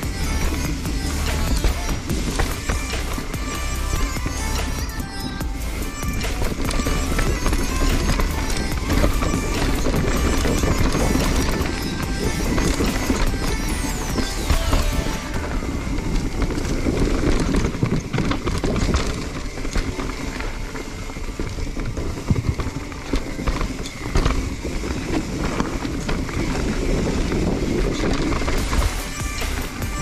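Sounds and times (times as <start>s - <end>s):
bike rattling over bumps: 0.0s - 30.0s
bike tyres on dirt: 0.0s - 30.0s
wind rumbling on microphone: 0.0s - 30.0s.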